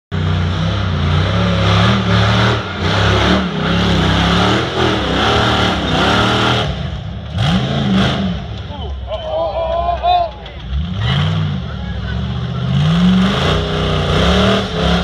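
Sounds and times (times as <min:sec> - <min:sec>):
buggy engine revving: 0:00.1 - 0:15.0.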